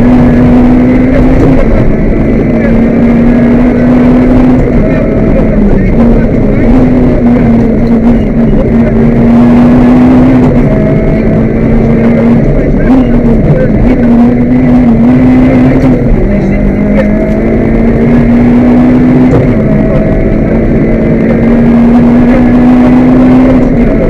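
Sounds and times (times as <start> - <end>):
car engine running under load: 0.0 - 24.0.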